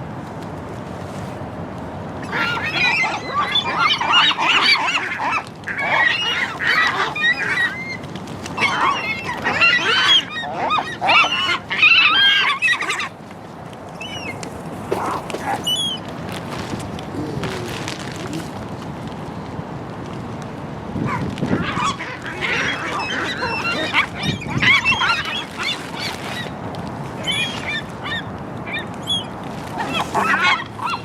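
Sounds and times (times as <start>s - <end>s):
gulls calling: 2.2s - 13.2s, 13.9s - 18.8s, 21.0s - 31.0s.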